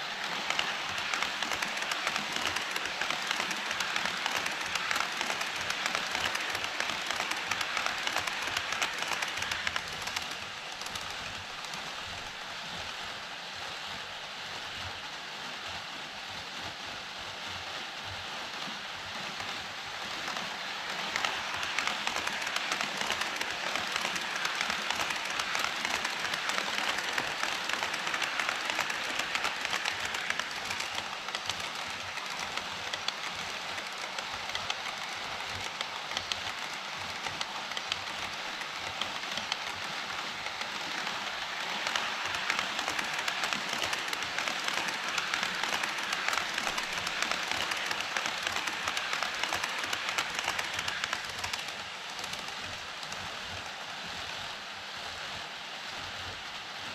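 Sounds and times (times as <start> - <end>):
model train wheels rattling on rails: 0.0 - 13.0, 19.1 - 53.8.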